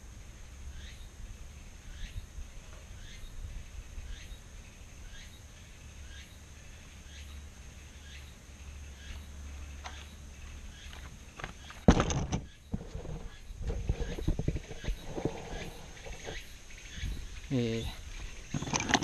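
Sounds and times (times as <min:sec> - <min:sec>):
bird chirping: 0:00.7 - 0:19.0.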